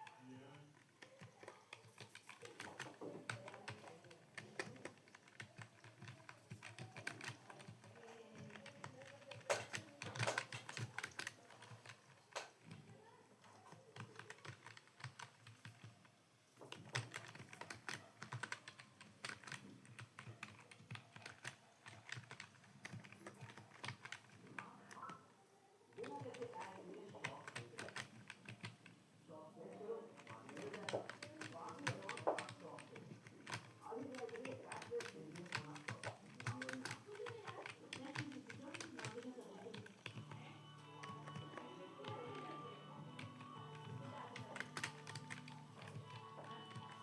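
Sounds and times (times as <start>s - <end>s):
typing on computer keyboard: 0.0s - 25.2s, 25.9s - 29.0s, 29.7s - 47.0s.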